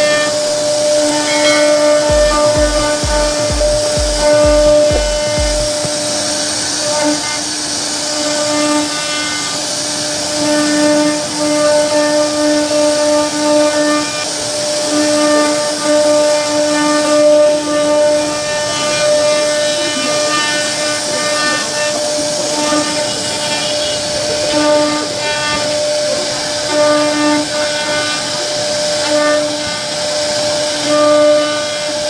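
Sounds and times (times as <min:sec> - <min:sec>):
router spindle whine cutting wood: 0:00.0 - 0:04.0, 0:04.7 - 0:32.0.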